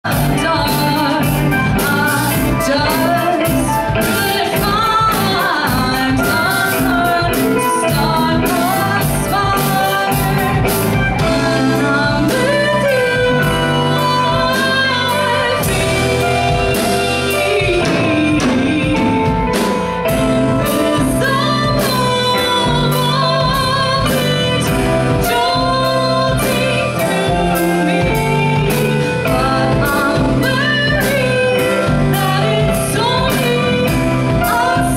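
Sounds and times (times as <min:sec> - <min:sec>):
bass guitar: 0:00.0 - 0:34.9
drums: 0:00.0 - 0:34.9
electric guitar: 0:00.0 - 0:34.9
keyboard: 0:00.0 - 0:34.9
woman singing lead: 0:00.0 - 0:34.9.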